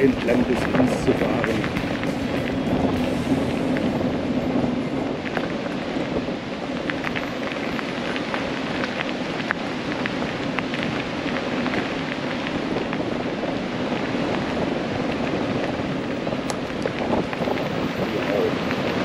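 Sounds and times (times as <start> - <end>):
rushing tyres and wind: 0.0 - 19.0.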